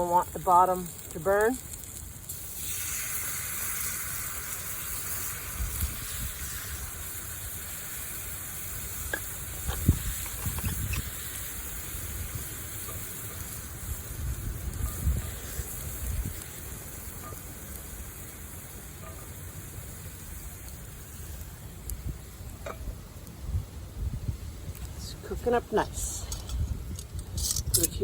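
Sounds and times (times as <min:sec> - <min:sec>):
water sizzling in hot pan: 0:00.0 - 0:28.0.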